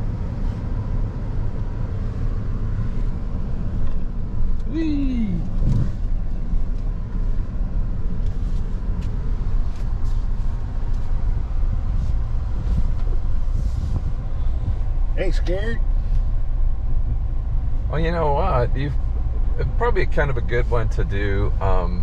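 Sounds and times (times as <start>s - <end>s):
low rumble of engine and tyres: 0.0s - 22.0s.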